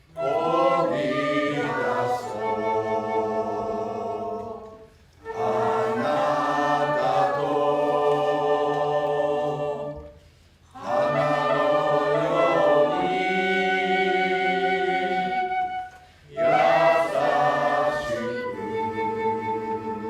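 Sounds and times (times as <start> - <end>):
group singing unaccompanied: 0.1 - 20.0.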